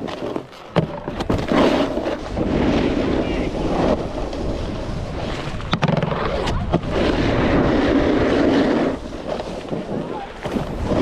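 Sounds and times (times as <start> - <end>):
snowboard scraping over snow: 0.0 - 11.0
wind on microphone: 1.1 - 11.0.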